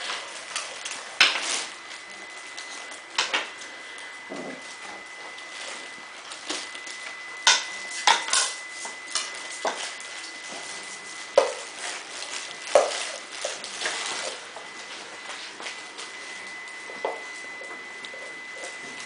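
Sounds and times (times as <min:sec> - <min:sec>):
animals scrabbling on tiled floor: 0:00.0 - 0:19.0.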